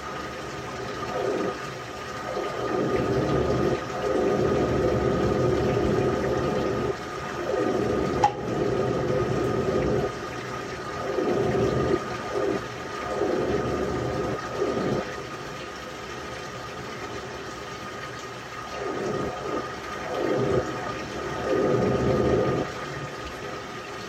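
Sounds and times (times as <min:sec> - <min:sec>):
faint steady hum: 0:00.0 - 0:24.0
washing machine water sloshing: 0:00.0 - 0:24.0.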